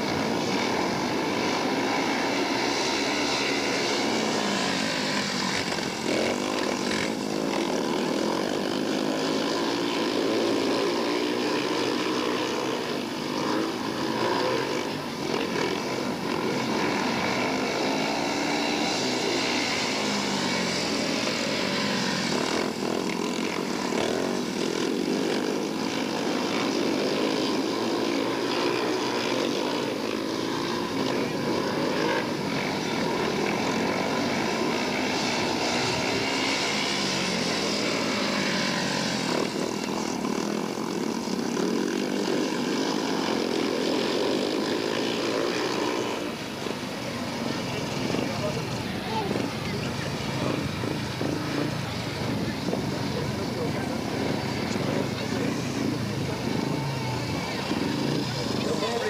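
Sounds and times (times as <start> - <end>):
motorcycles racing: 0.0 - 59.0.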